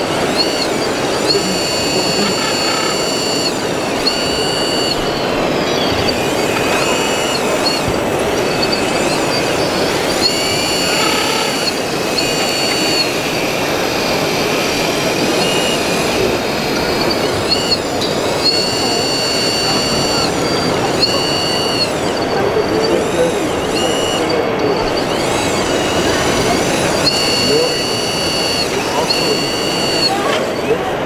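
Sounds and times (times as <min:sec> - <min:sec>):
high electric pump whine: 0:00.0 - 0:31.0
steady background noise: 0:00.0 - 0:31.0.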